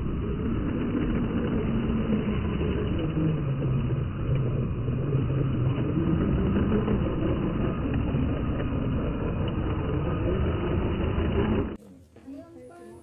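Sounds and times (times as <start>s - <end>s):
rc car engine-like rumble: 0.0s - 11.8s.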